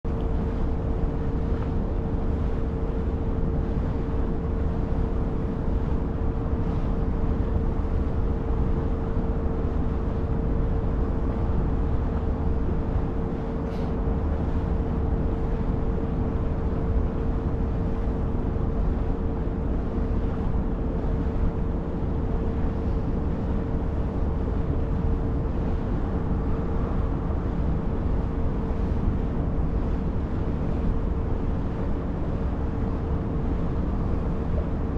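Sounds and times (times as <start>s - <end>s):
ferry engine droning: 0.1s - 34.9s.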